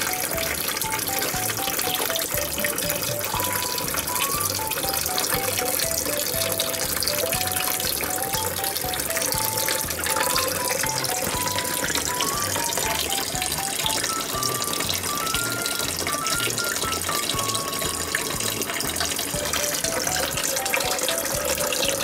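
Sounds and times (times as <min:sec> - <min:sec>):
light background music: 0:00.0 - 0:22.0
tap water running: 0:00.0 - 0:22.0.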